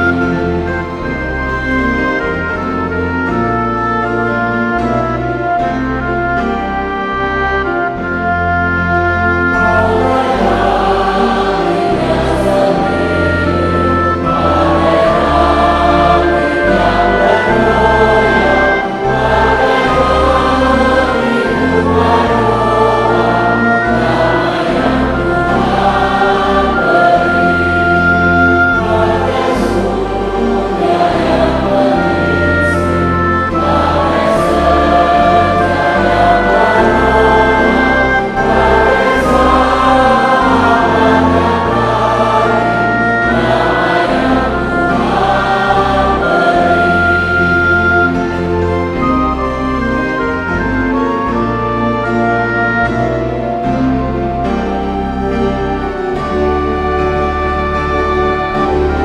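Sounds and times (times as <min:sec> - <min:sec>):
congregation singing a hymn: 0:00.0 - 0:59.0
instrumental accompaniment: 0:00.0 - 0:59.0.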